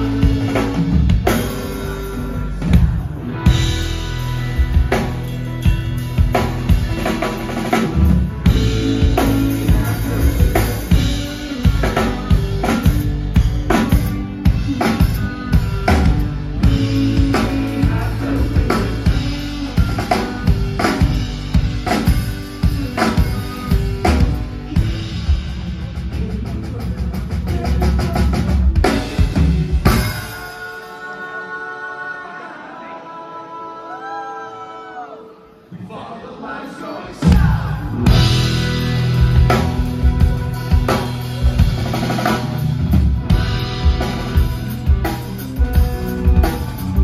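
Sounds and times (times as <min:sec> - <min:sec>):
live rock band playing: 0:00.0 - 0:32.8, 0:37.0 - 0:47.0.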